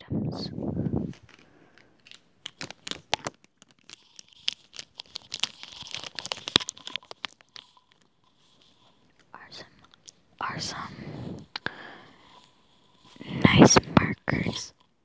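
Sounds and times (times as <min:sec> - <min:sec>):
crinkling: 0:00.7 - 0:15.0.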